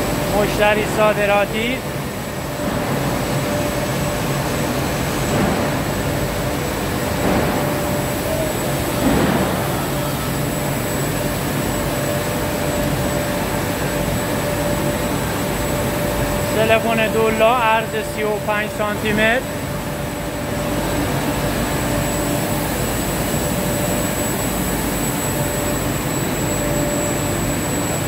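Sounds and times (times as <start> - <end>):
steady high whine: 0.0 - 28.0.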